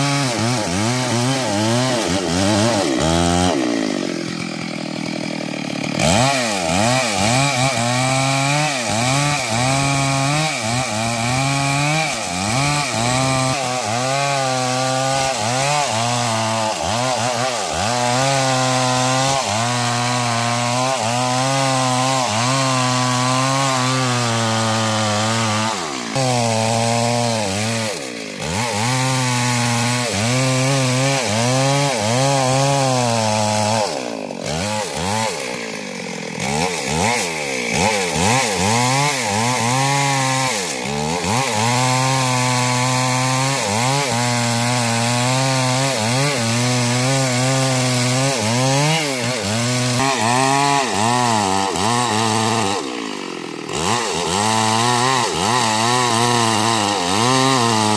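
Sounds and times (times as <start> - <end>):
chainsaw cutting wood: 0.0 - 57.9.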